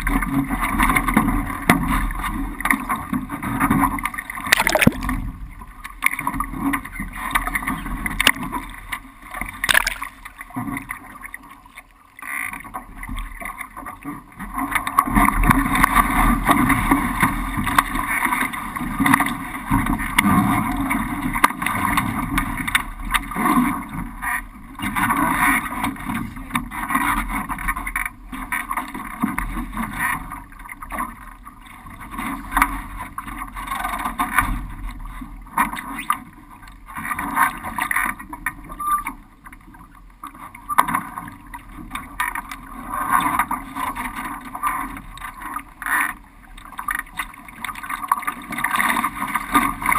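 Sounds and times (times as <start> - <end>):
water rushing along a hull: 0.0 - 49.9.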